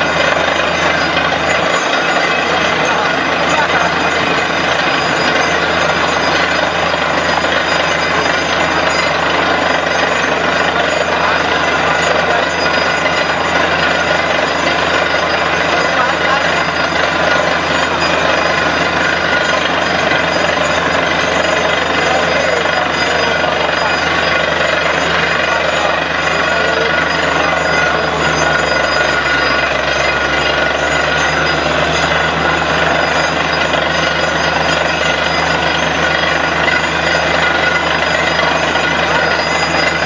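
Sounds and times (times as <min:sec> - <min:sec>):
drilling rig engine and compressor: 0:00.0 - 0:40.0.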